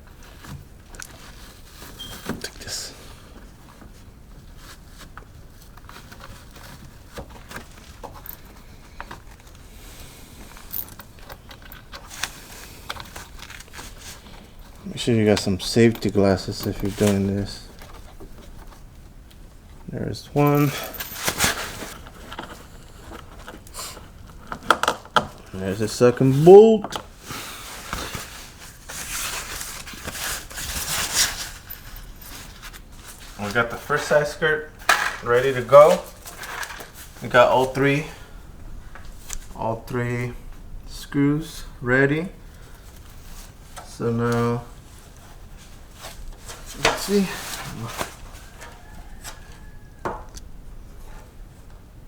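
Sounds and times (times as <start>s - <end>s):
car parts scraping and rustling: 0.0s - 38.1s, 42.5s - 50.0s
low steady hum: 0.0s - 49.0s.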